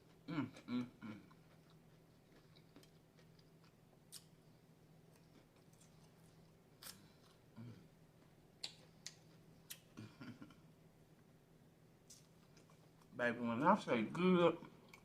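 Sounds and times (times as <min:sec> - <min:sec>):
soft chewing: 0:00.0 - 0:11.3, 0:12.0 - 0:13.2, 0:14.1 - 0:15.0
low steady hum: 0:00.0 - 0:15.0.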